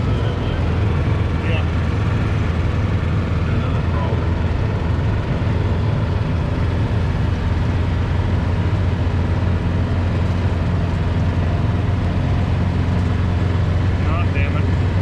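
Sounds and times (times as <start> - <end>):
road and wind noise: 0.0 - 15.0
vehicle engine droning: 0.0 - 15.0.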